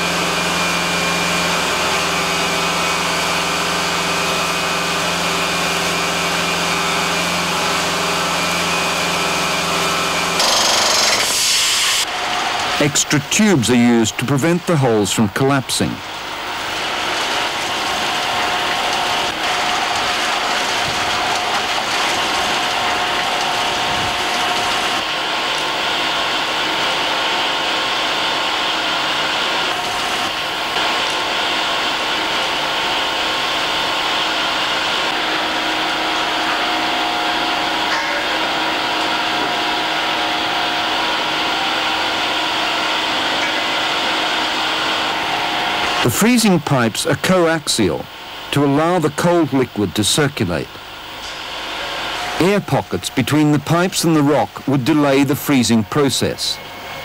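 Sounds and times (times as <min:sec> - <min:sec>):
rock drilling rig whining: 0:00.0 - 0:57.0.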